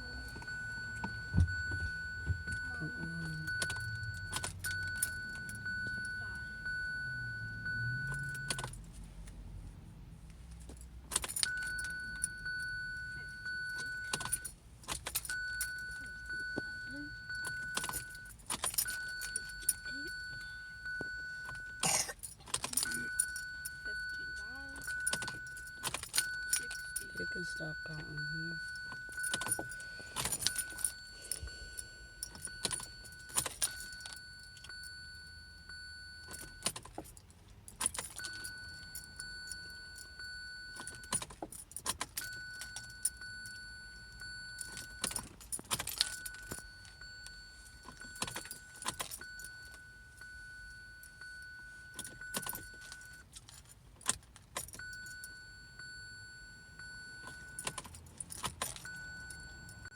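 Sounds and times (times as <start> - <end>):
keys jangling in ignition: 0.0 - 59.9.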